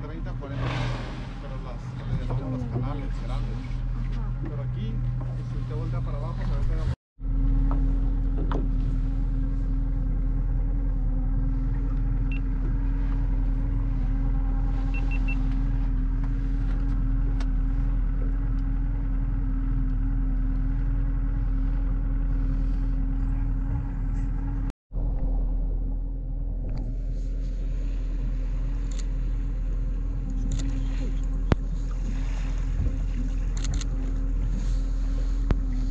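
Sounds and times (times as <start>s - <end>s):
outboard motor running: 0.0s - 25.2s, 26.0s - 35.9s.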